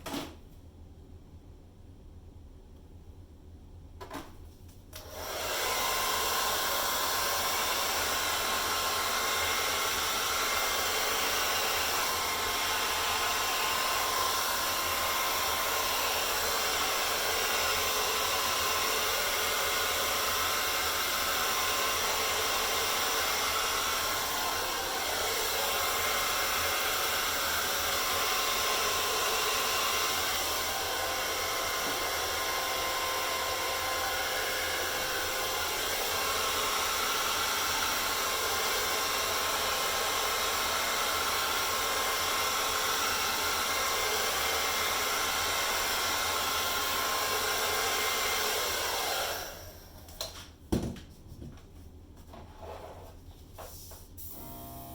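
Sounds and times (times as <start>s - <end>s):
hair dryer blowing: 5.0s - 50.4s, 54.3s - 54.9s.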